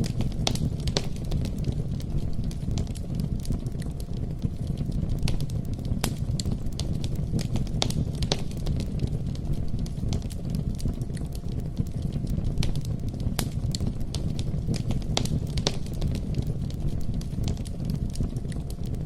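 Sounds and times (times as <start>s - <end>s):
bonfire flames rumbling: 0.0s - 19.0s
burning wood crackling and popping: 0.0s - 19.0s.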